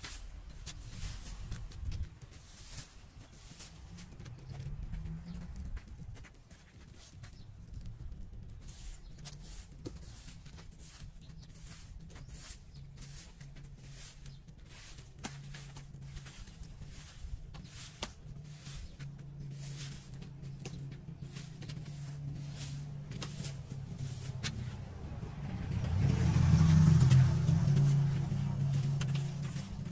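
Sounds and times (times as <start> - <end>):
broom sweeping grit on pavement: 0.0 - 4.2, 8.6 - 29.9.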